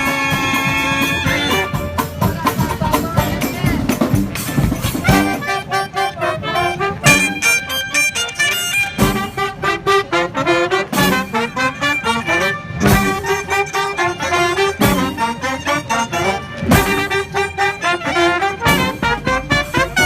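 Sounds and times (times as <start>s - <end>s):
marching band brass music: 0.0s - 20.0s.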